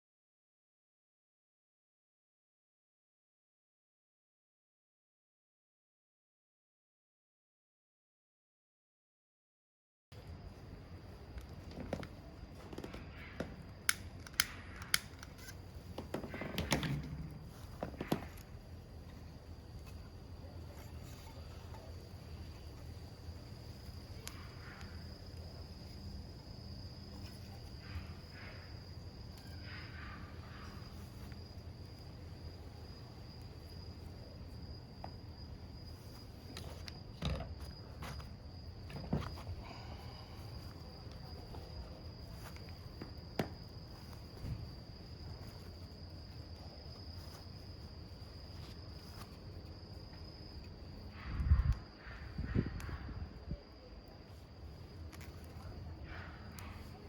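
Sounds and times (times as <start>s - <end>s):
crickets chirring: 10.2s - 57.0s.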